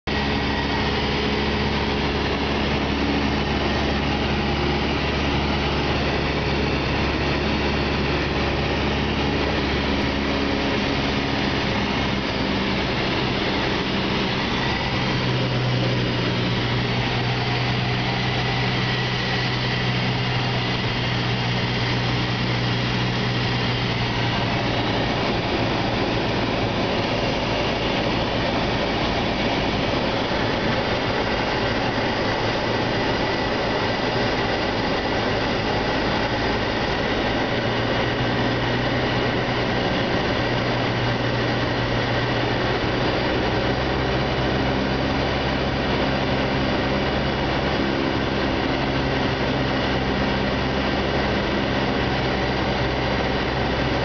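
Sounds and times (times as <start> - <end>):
propeller plane engine drone: 0.0 - 54.0.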